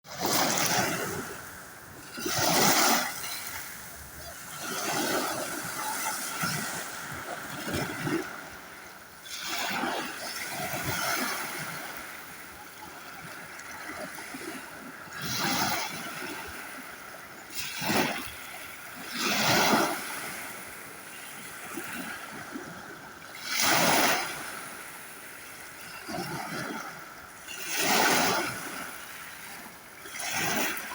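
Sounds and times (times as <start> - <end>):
sea waves washing and splashing: 0.1 - 30.9.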